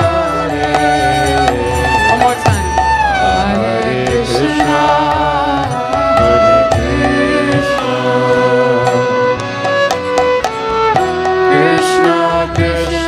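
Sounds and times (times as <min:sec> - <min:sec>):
ringing hand cymbals: 0:00.0 - 0:12.2
hand drum: 0:00.0 - 0:13.0
voices singing long notes: 0:00.0 - 0:13.0.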